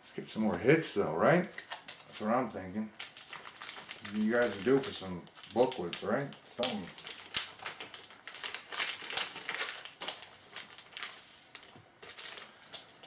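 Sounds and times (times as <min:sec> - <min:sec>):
card wrapper crinkling: 0:01.5 - 0:13.0.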